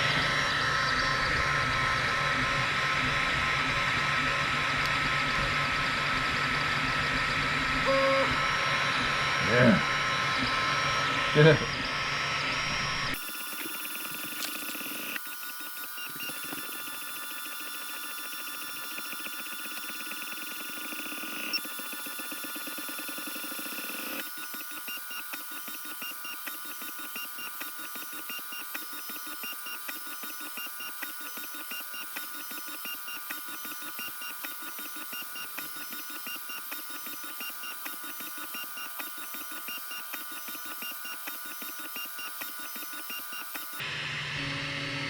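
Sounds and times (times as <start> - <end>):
stepper motors whining: 7.1 - 43.9.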